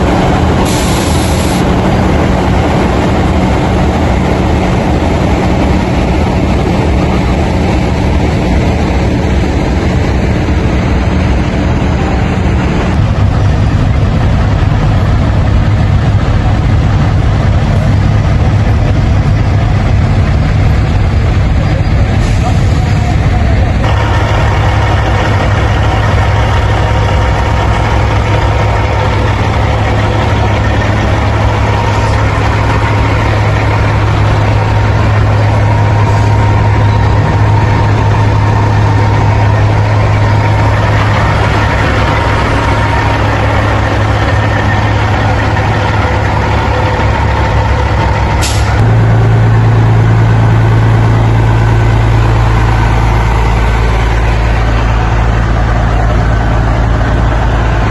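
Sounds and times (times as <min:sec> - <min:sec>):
road noise: 0:00.0 - 0:57.9
truck engine droning: 0:00.0 - 0:57.9.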